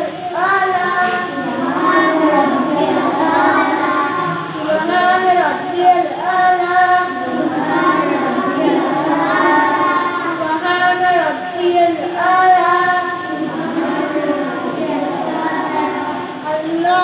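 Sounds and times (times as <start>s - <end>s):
young voices chanting: 0.0s - 17.0s.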